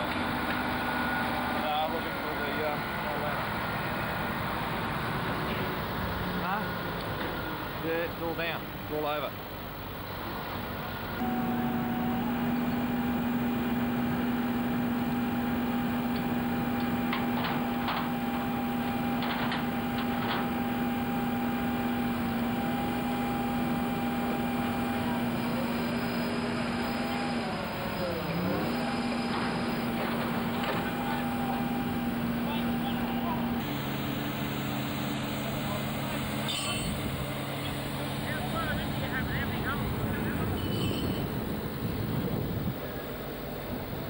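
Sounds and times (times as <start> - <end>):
crane engine running: 0.0 - 44.0.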